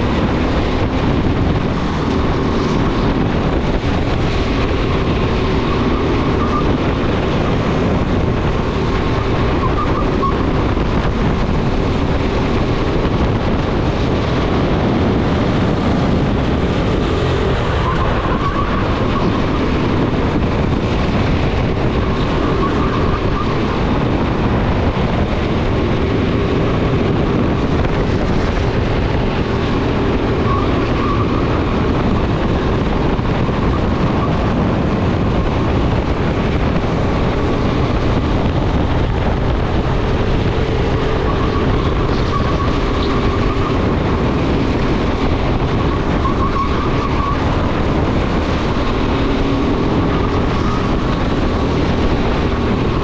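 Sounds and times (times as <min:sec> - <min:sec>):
wind noise on microphone: 0:00.0 - 0:53.0.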